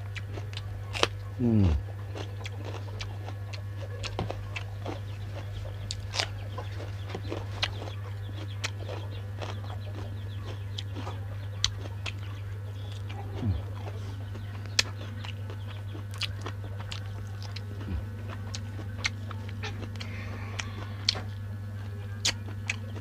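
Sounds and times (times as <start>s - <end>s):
chewing clicks and crunches: 0.0s - 23.0s
low electrical hum: 0.0s - 23.0s.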